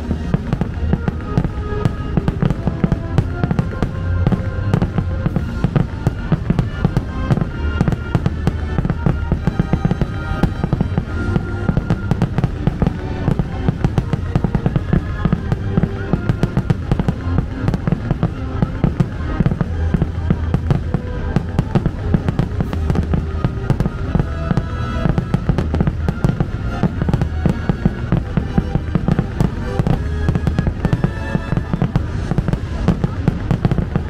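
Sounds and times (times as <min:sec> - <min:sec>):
fireworks bangs: 0:00.0 - 0:34.0
show music: 0:00.0 - 0:34.0.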